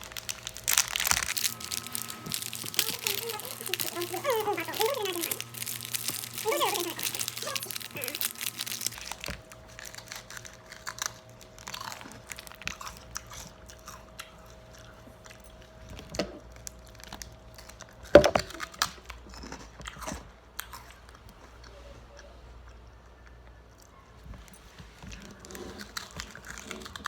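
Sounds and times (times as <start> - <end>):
crunchy snack chewing: 0.0 - 21.6, 25.1 - 27.0.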